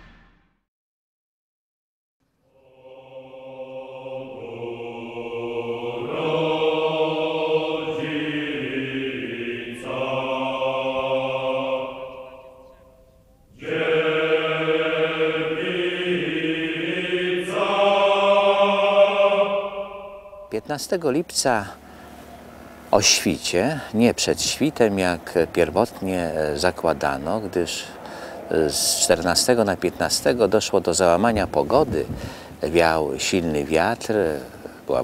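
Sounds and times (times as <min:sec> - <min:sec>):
choir singing long held notes: 0:02.4 - 0:31.7.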